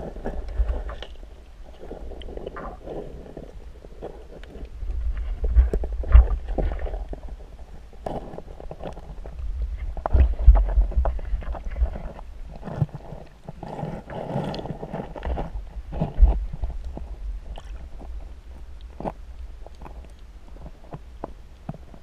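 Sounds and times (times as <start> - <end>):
underwater rumble of moving water: 0.0 - 22.0
underwater clicks and knocks: 2.2 - 22.0.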